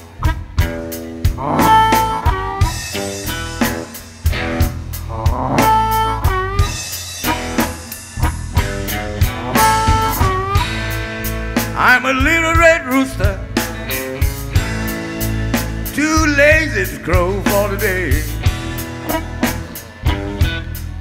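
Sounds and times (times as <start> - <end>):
bass: 0.0 - 21.0
drum kit steady beat: 0.0 - 21.0
electric guitar bent notes: 0.0 - 21.0.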